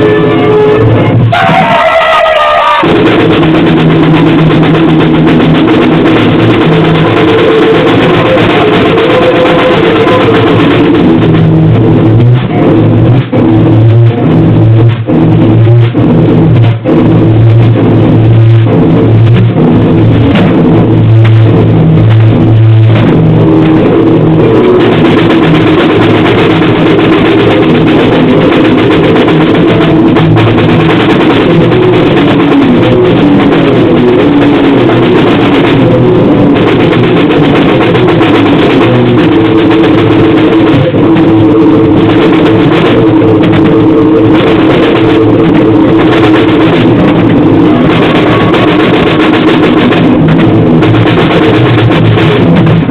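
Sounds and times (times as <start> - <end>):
distorted noise music with drums: 0.0 - 52.9.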